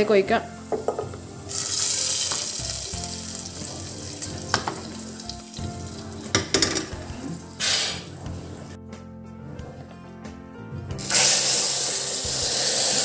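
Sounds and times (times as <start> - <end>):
hot oil sizzling in curry: 0.0 - 8.6, 11.0 - 13.0.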